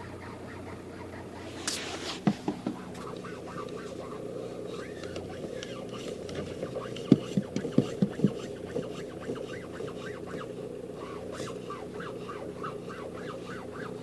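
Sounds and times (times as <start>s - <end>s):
steady low hum: 0.0s - 14.0s
steering squeaking: 0.0s - 14.0s.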